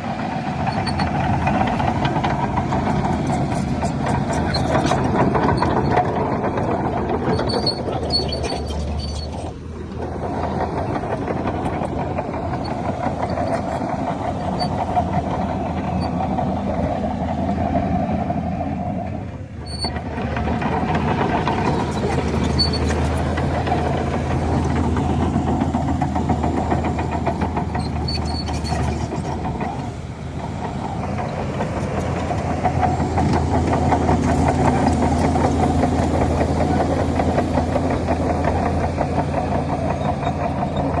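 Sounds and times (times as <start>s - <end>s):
heavy diesel engines humming: 0.0s - 41.0s.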